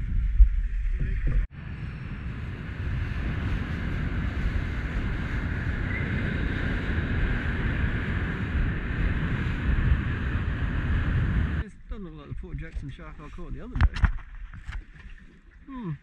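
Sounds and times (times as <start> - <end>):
wind buffeting microphone: 0.0 - 15.1.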